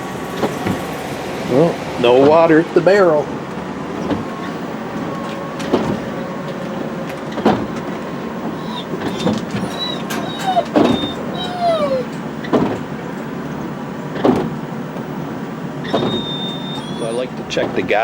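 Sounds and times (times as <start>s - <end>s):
motorhome running noise: 0.0s - 18.0s
high squeaky whines: 0.4s - 18.0s.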